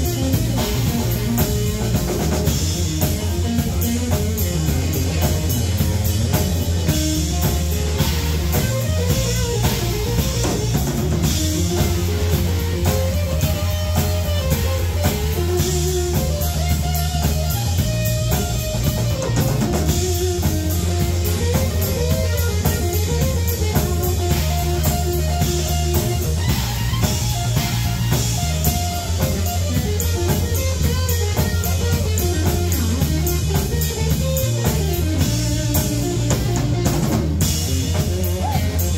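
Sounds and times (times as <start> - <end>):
bass guitar: 0.0 - 38.9
drum kit with cymbal beat: 0.0 - 38.9
electric guitar lead: 0.0 - 38.9.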